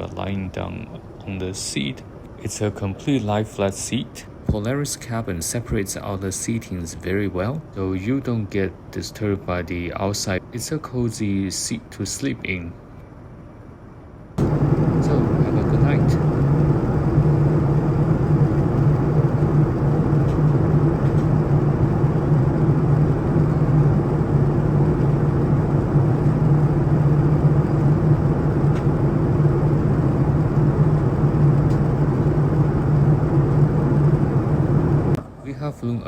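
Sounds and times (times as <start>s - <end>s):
airliner cabin drone: 0.0s - 36.0s.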